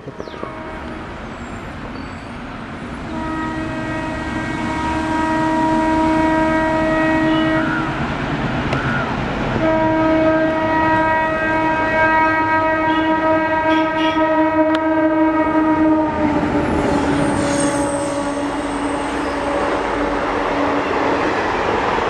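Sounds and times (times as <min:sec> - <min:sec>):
locomotive horn blasts: 0:00.0 - 0:01.6, 0:03.0 - 0:08.0, 0:09.6 - 0:21.0
train rumbling: 0:00.0 - 0:22.0.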